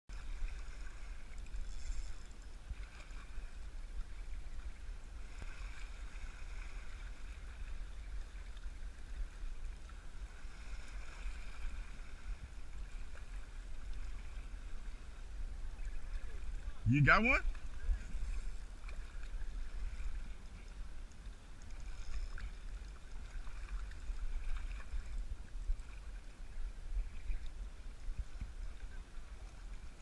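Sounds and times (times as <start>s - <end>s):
small waves lapping on rocks: 0.1s - 30.0s
wind rumbling on microphone: 0.1s - 30.0s.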